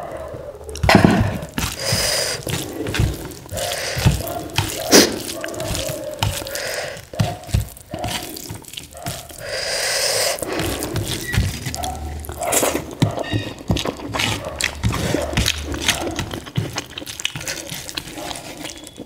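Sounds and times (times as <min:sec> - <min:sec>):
hand mixing rice on steel plate: 0:00.8 - 0:19.0.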